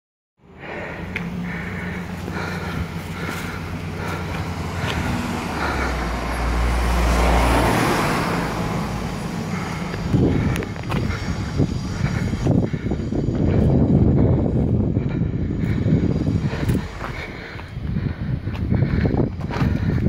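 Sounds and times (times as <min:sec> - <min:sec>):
car engine running: 0:00.4 - 0:20.0
vehicle passing: 0:00.4 - 0:20.0.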